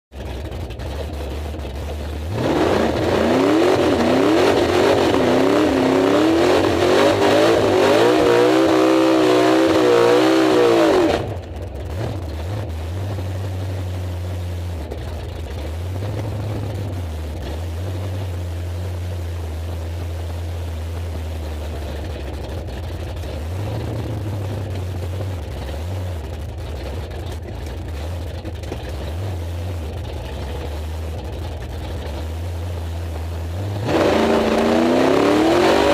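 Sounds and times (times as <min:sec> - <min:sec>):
drag car engine at full throttle: 0:00.1 - 0:35.9
low drone of rolling car: 0:00.1 - 0:35.9.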